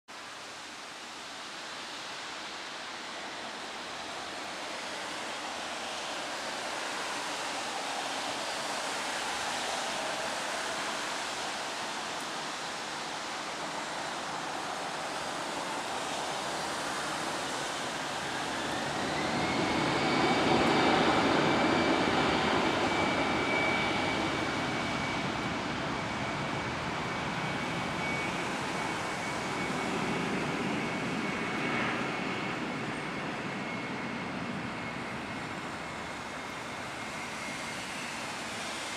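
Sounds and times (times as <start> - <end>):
jet engines rushing: 1.2 - 38.9
jet engine whine rising: 1.9 - 38.9.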